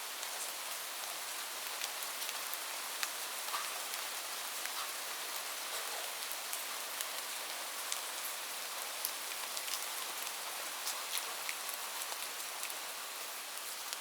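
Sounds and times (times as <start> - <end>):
raindrops striking a surface: 0.1 - 14.0.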